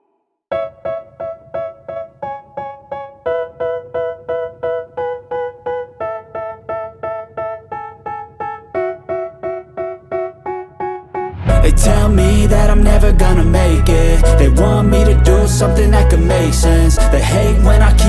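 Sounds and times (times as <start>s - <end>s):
keyboard playing repeated chords: 0.5s - 18.0s.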